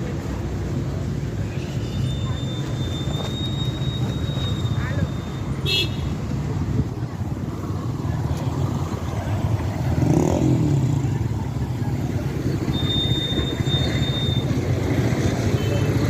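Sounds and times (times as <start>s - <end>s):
vehicle engines passing: 0.0s - 16.0s.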